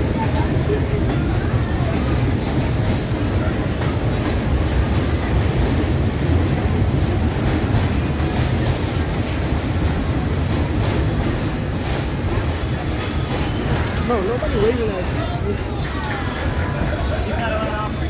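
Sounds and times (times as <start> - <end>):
subway train rumbling on track: 0.0 - 18.0.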